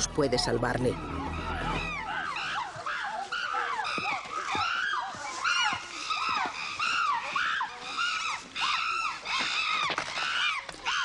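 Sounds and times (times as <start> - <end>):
chimpanzees screaming: 0.9 - 11.0.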